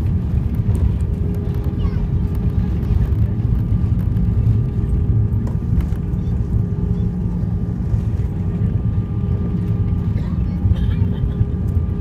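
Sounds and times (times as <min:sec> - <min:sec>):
jet engine and wheels rumble: 0:00.0 - 0:12.0
steady whine: 0:00.0 - 0:12.0.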